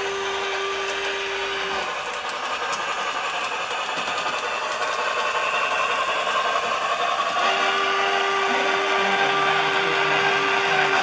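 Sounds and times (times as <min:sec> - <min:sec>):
model train motor whirring: 0:00.0 - 0:11.0.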